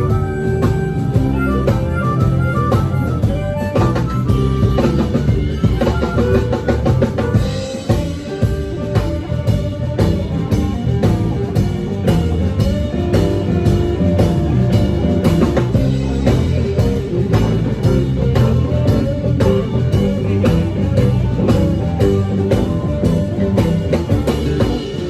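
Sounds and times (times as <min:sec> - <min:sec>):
country band playing live: 0:00.0 - 0:25.0
drum kit beat: 0:00.0 - 0:25.0.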